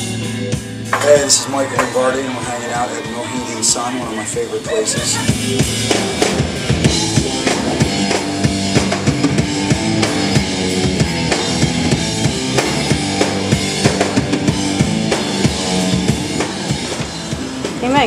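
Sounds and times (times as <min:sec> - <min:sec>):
bass guitar: 0:00.0 - 0:18.0
drum kit steady beat: 0:00.0 - 0:18.0
electric guitar: 0:00.0 - 0:18.0.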